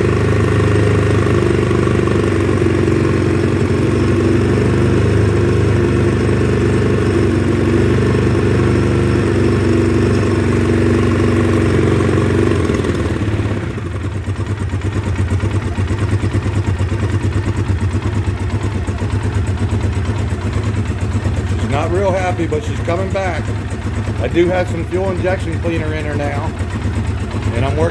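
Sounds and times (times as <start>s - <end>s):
engine idling unevenly: 0.0s - 27.9s.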